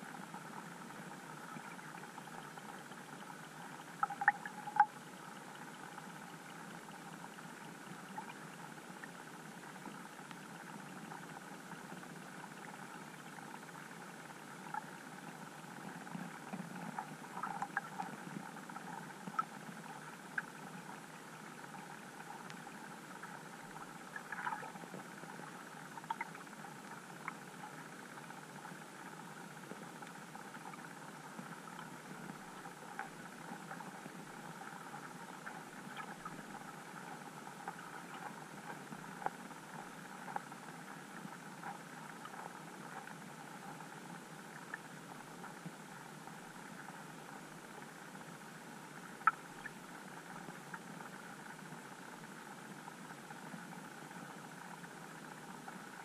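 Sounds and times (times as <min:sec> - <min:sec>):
muffled underwater hiss: 0:00.0 - 0:56.0
small clicks and ticks: 0:00.0 - 0:56.0.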